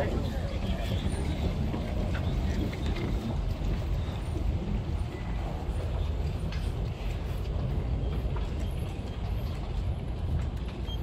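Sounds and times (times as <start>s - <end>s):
low rumble of terminal concourse: 0.0s - 11.0s.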